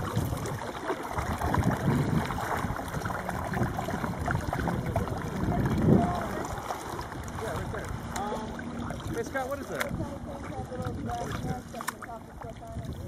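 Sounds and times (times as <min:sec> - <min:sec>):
paddle strokes splashing: 0:00.0 - 0:13.0
water along hull: 0:00.0 - 0:13.0.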